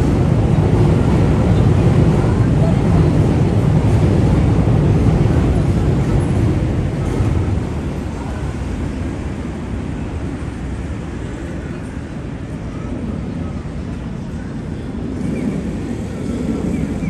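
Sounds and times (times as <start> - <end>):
faint voices of passers-by: 0.0 - 17.0
low rumble of traffic: 0.0 - 17.0.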